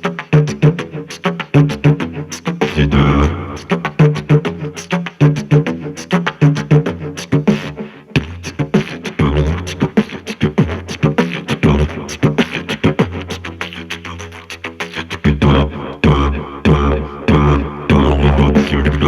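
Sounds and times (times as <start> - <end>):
didgeridoo drone: 0.0 - 19.0
vocal percussion beats: 0.0 - 19.0.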